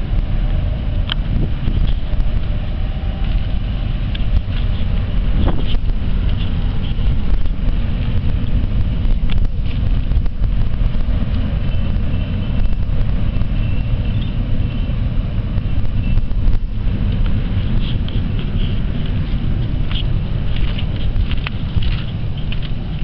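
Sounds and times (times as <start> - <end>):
ferry engines rumbling: 0.0 - 23.0
wind buffeting microphone: 0.0 - 23.0.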